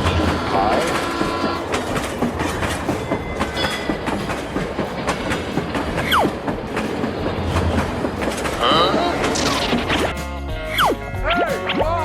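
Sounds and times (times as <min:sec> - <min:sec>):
train wheels clacking on rails: 0:00.0 - 0:10.0.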